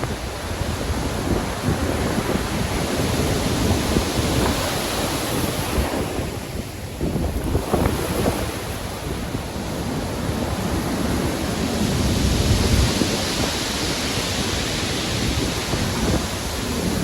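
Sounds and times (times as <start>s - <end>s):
heavy waves breaking: 0.0s - 17.0s
wind: 0.0s - 17.0s.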